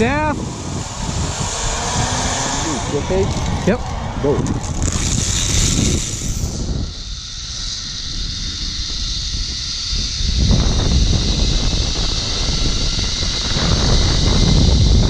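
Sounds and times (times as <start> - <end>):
wind buffeting microphone: 0.0 - 15.0
zip-line trolley hissing on cable: 0.0 - 15.0.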